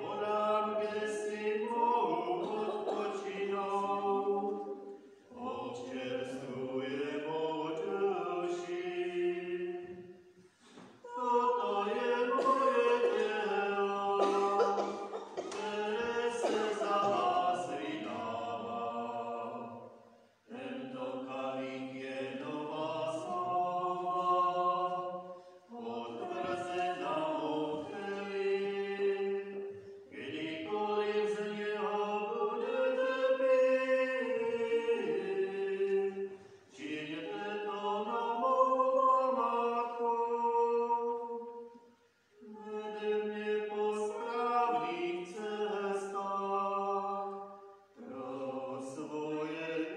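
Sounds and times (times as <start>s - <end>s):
hymn singing: 0.0s - 49.9s.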